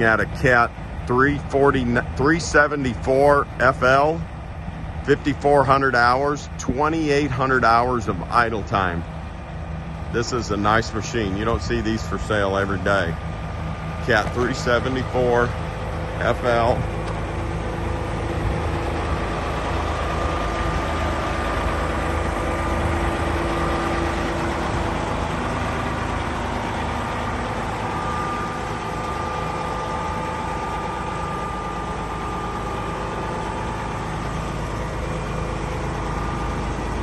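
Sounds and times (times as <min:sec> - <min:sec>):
excavator diesel engine running: 0:00.0 - 0:37.0
thin steady whine: 0:00.0 - 0:37.0.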